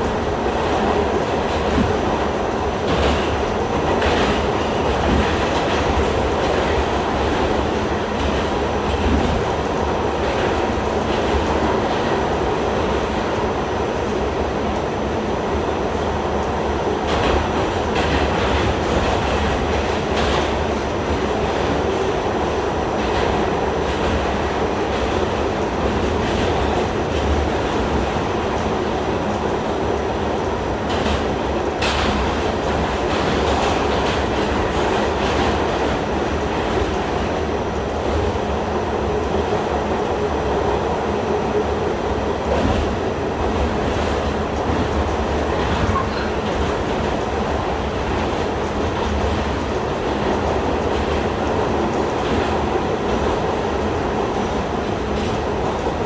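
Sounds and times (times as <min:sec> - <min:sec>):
sharp knocks of train: 0:00.0 - 0:13.4, 0:17.0 - 0:22.2, 0:22.9 - 0:29.8, 0:30.4 - 0:38.4, 0:42.4 - 0:56.0
subway train roaring at speed: 0:00.0 - 0:56.0.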